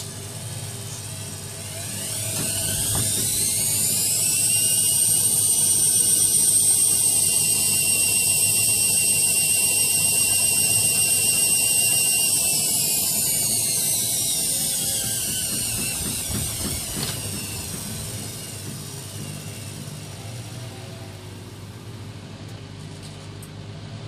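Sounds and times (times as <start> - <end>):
washing machine motor whine: 0.0 - 24.0.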